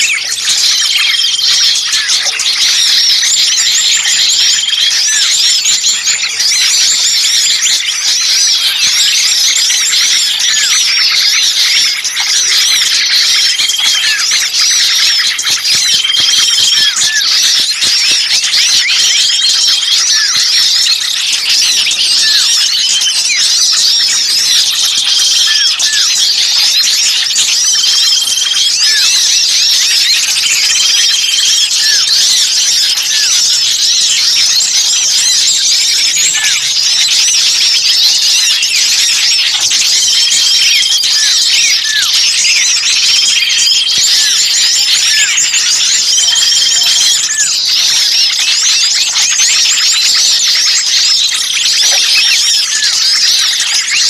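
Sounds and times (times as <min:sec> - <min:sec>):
chorus of songbirds chirping: 0:00.0 - 0:54.0.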